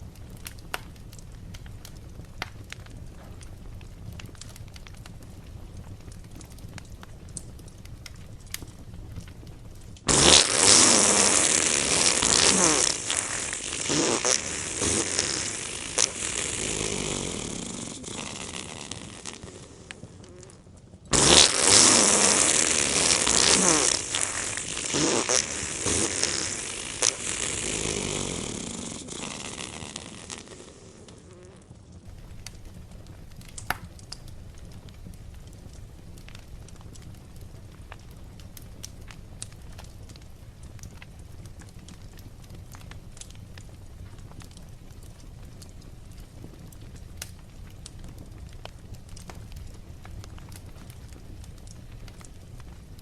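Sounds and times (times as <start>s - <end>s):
fire hissing and crackling: 0.0s - 53.0s.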